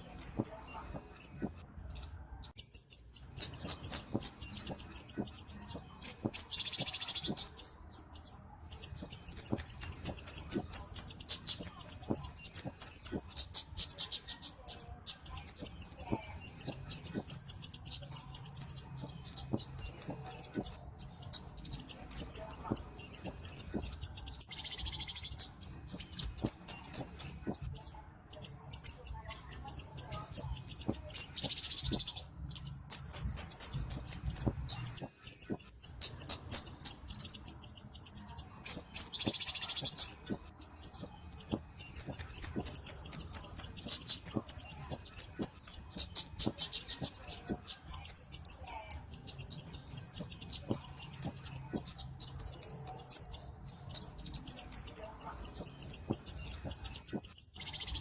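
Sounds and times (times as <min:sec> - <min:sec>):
bird ticking chirps: 0:00.0 - 0:58.0.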